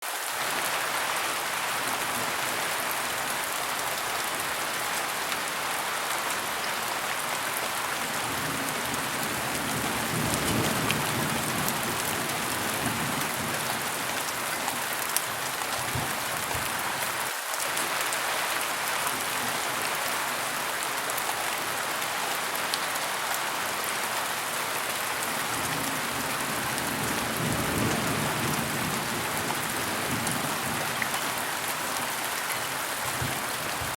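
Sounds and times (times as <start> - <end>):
hard rain on hard floor: 0.0 - 33.9.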